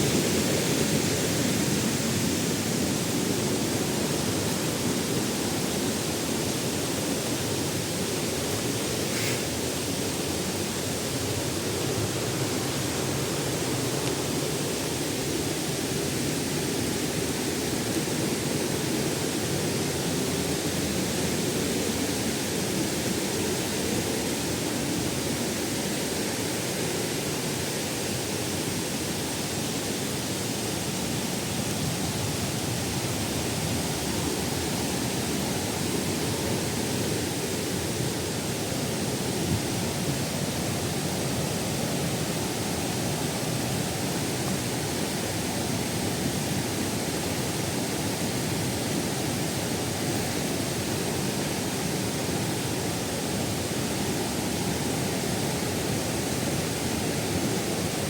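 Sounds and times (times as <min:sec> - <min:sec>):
waterfall rushing over rock: 0:00.0 - 0:58.0.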